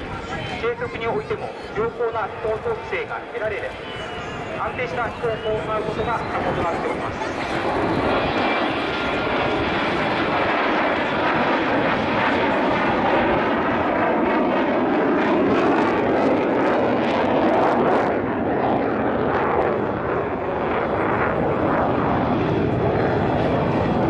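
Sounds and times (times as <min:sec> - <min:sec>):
fighter jet roaring: 0:00.0 - 0:24.0.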